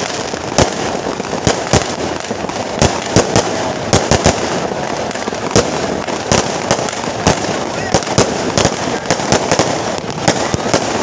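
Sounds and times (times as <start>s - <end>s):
firecracker bangs: 0.0s - 11.0s
firecrackers crackling: 0.0s - 11.0s.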